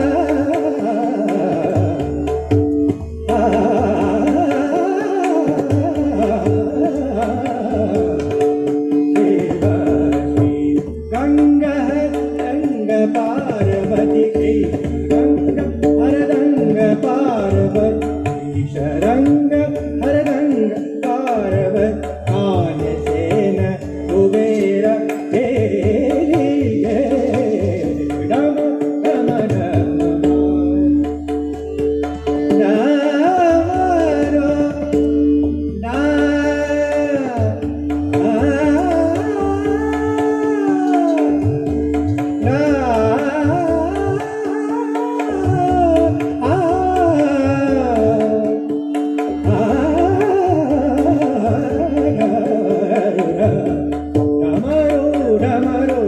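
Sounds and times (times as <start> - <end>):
man singing devotional song: 0.0 - 56.0
tabla: 0.0 - 56.0.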